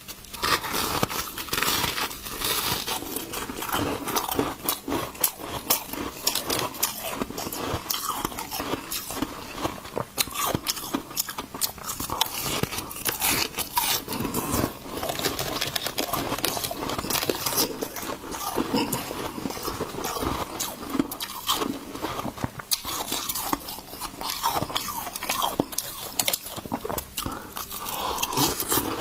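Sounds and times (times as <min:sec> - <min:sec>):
person chewing ice crunches: 0:00.0 - 0:29.0.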